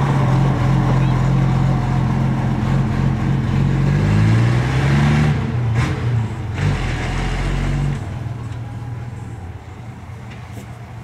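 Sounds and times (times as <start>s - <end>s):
fire truck engine pulling away: 0.0s - 11.0s.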